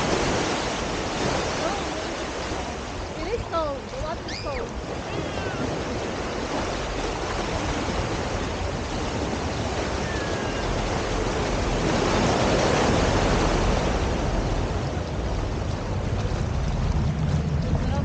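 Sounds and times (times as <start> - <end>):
ocean surf washing onto beach: 0.0 - 18.0
wave breaking: 0.0 - 18.0.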